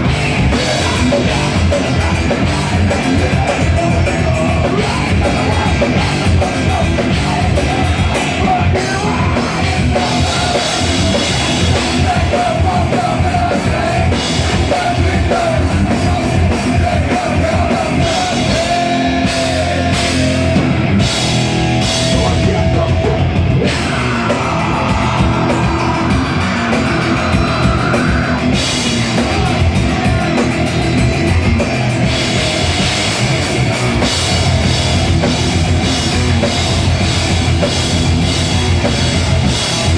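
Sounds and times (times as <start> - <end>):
drum kit: 0.0 - 39.9
heavy metal band playing: 0.0 - 39.9.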